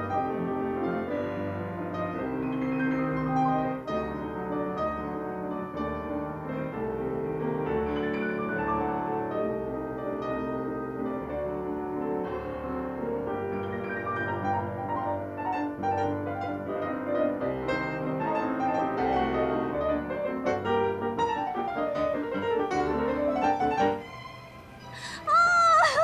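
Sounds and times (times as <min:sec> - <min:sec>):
piano piece: 0:00.0 - 0:26.0.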